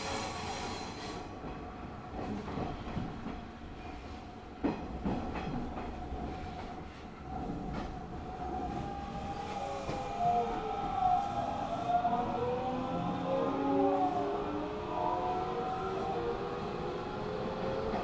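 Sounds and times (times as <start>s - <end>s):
electric train rumble and whine: 0.0s - 18.0s.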